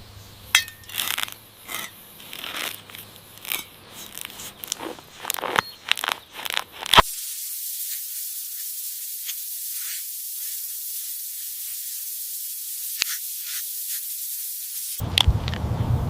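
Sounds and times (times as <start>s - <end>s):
steady high hiss: 0.0s - 15.2s.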